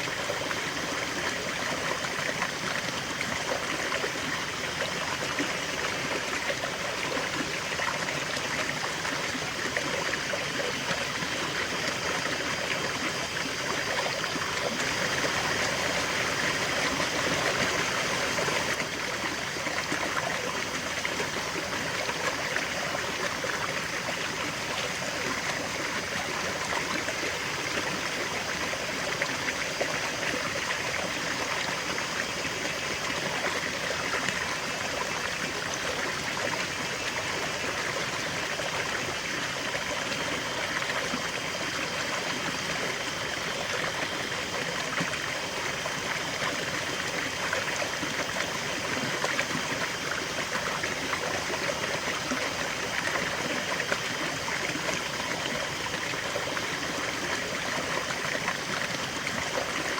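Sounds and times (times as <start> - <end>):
river water rushing over stones: 0.0 - 59.9.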